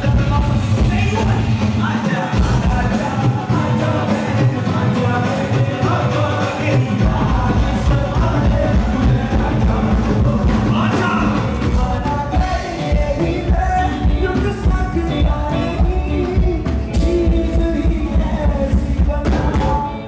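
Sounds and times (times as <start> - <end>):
heavy pulsing bass: 0.0 - 19.7
drum kit: 0.0 - 20.0
electric guitar: 0.0 - 20.0
man singing into a microphone: 0.0 - 20.0.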